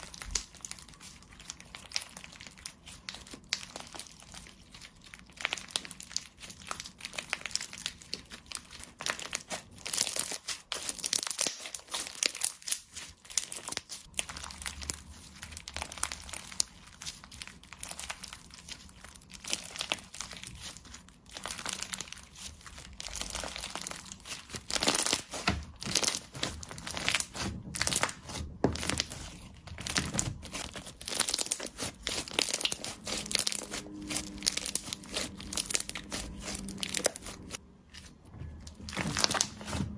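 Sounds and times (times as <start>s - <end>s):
slime crackling and popping: 0.0s - 37.6s, 38.8s - 39.9s.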